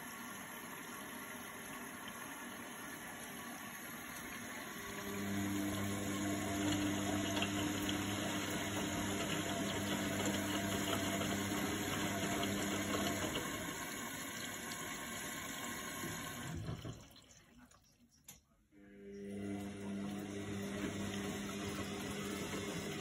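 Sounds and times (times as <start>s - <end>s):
washing machine motor humming: 0.0s - 17.7s, 18.7s - 23.0s.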